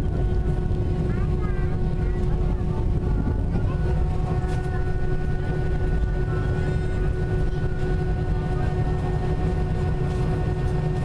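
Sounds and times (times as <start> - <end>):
constant engine whine: 0.0 - 11.0
jet cabin low rumble: 0.0 - 11.0.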